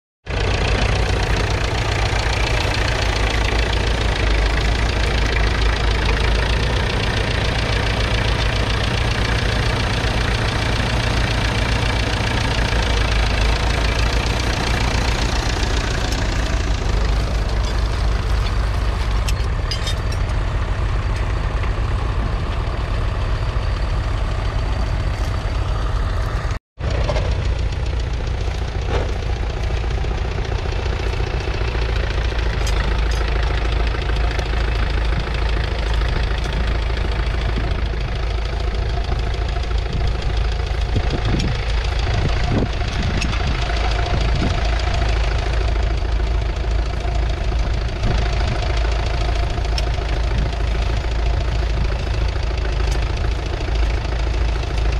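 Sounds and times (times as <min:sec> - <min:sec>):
tractor diesel engine rumbling: 0:00.2 - 0:54.9.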